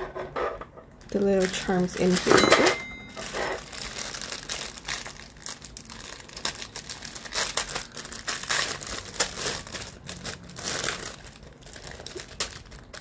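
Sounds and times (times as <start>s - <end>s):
plastic bag crinkling: 0.9s - 13.0s.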